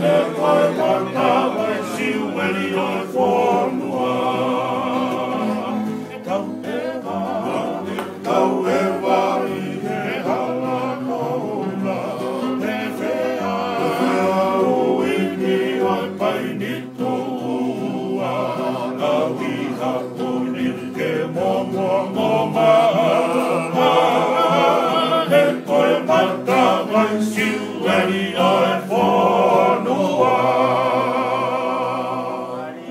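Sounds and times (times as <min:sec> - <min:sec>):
men singing in harmony: 0:00.0 - 0:32.9
strummed acoustic guitars: 0:00.0 - 0:32.9.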